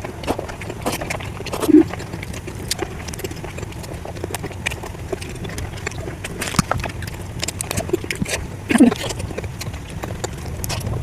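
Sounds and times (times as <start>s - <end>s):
person chewing with wet smacks: 0.0s - 11.0s
steady low hum: 0.0s - 11.0s.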